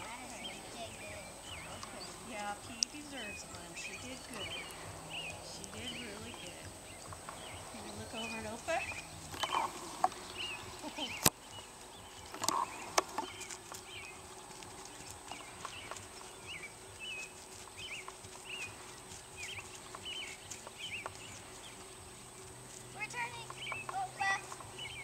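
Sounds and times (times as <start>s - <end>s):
horse walking on grass: 0.0s - 25.0s.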